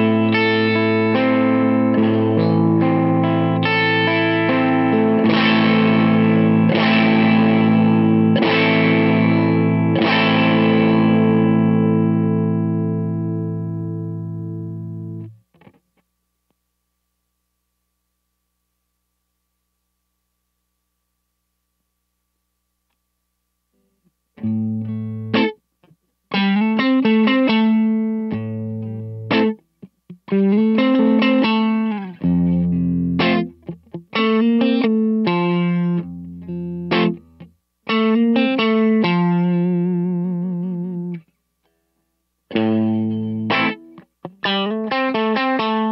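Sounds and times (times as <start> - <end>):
overdriven electric guitar chords: 0.0 - 15.8, 24.4 - 41.9, 42.5 - 45.9.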